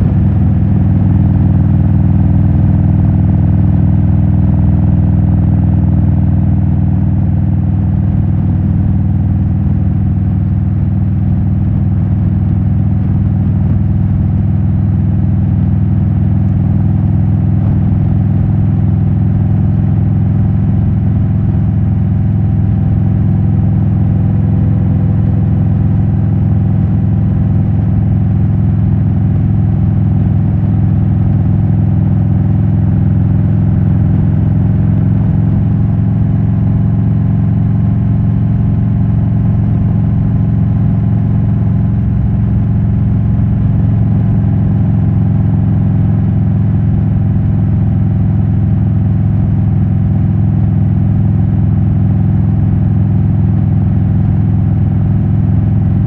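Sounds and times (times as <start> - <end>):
motorcycle exhaust: 0.0 - 56.0.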